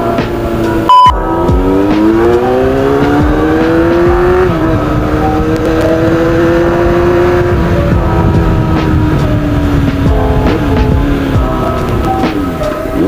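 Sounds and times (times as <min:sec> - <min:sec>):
motorcycle engine accelerating: 0:00.0 - 0:13.0
wind noise: 0:00.0 - 0:13.0.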